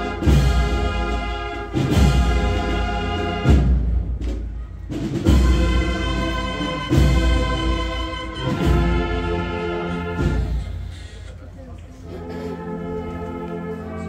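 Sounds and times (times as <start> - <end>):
brass band playing slow march: 0.0 - 14.0.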